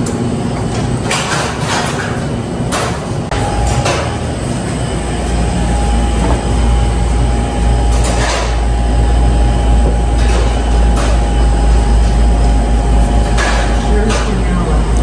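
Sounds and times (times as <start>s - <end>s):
machinery rumble and hum: 0.0s - 15.0s.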